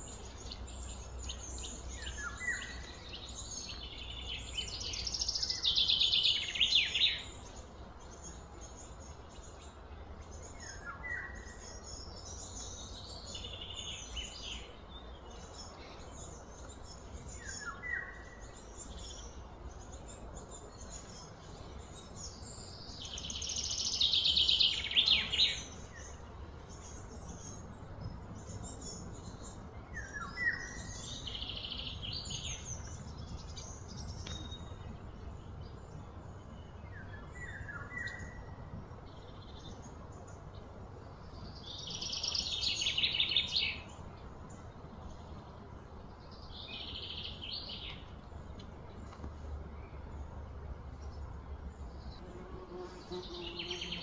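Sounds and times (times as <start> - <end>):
birds chirping: 0.0 - 54.0
low outdoor rumble: 0.0 - 54.0.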